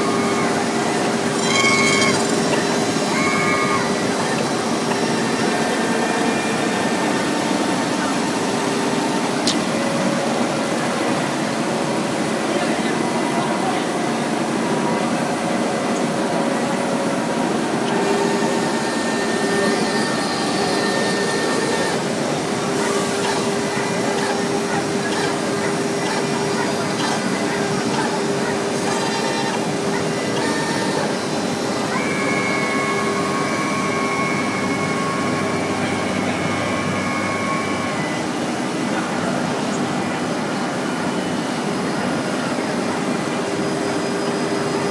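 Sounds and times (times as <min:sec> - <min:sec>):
machinery noise: 0:00.0 - 0:44.9
spindle whine: 0:00.0 - 0:44.9
wood router whirring: 0:00.0 - 0:44.9.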